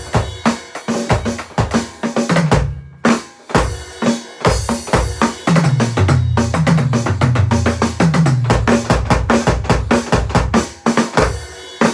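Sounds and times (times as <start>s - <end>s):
drum kit beat: 0.0s - 11.9s.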